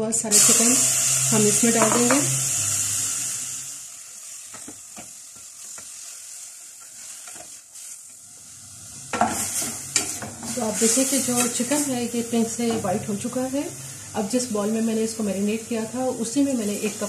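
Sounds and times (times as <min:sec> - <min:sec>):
chicken sizzling in hot oil: 0:00.2 - 0:17.0.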